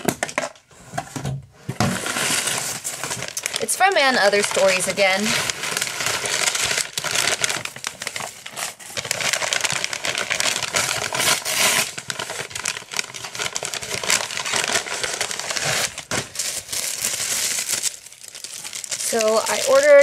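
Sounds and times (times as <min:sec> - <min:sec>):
paper packaging crinkling: 0:01.8 - 0:20.0.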